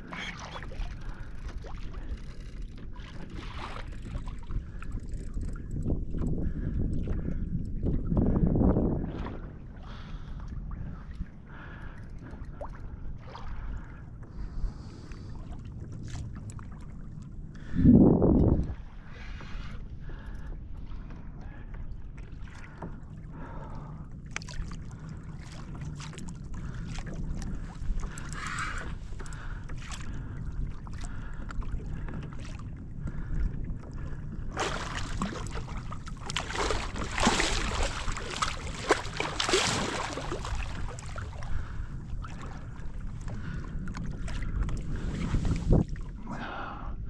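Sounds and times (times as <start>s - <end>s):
water splashing against kayak: 0.0s - 46.5s
wind rumble on microphone: 0.0s - 47.0s.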